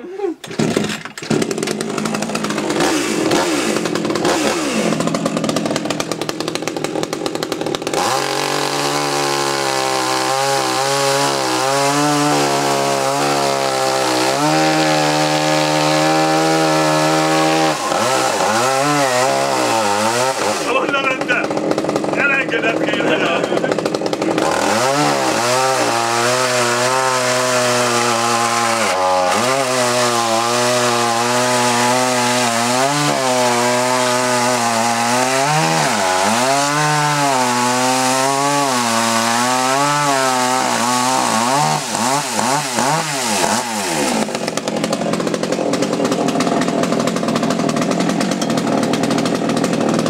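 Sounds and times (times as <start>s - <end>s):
chainsaw cutting wood: 0.4s - 50.0s.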